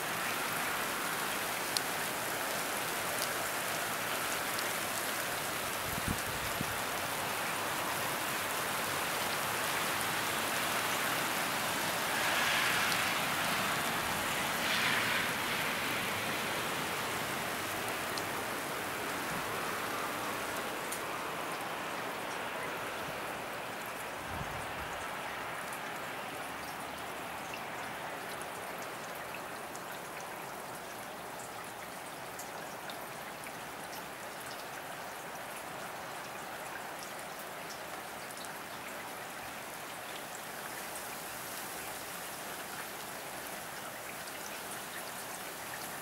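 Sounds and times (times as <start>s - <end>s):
steady rain patter: 0.0s - 46.0s.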